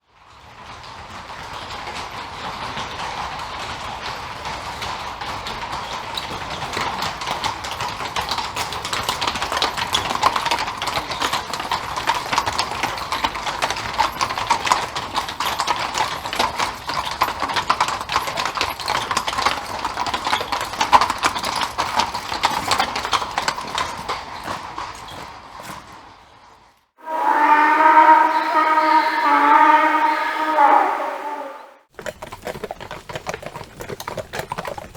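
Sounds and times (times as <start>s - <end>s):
horse hooves clip-clopping: 0.0s - 26.9s, 31.8s - 34.9s.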